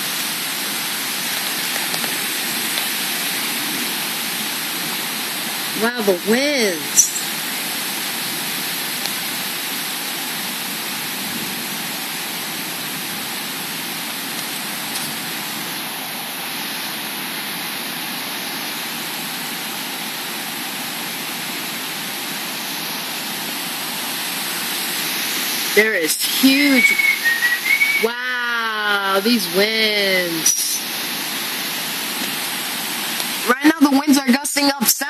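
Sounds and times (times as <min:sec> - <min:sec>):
wind in the trees: 0:00.0 - 0:34.0
heavy rain downpour: 0:00.0 - 0:35.0.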